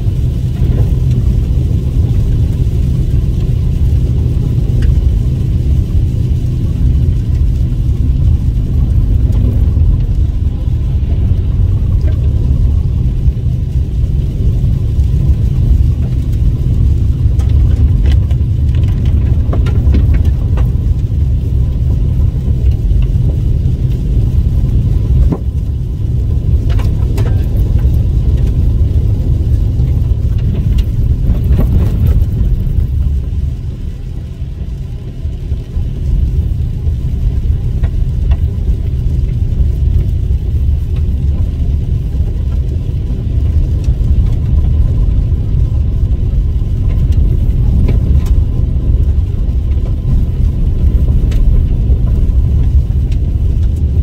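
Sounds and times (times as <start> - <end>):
car driving on gravel: 0.0 - 54.0.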